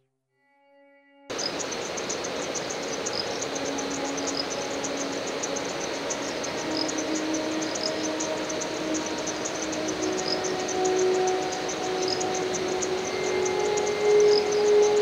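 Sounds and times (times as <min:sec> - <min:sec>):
insects chirping: 0:01.3 - 0:15.0
steady hiss: 0:01.3 - 0:15.0.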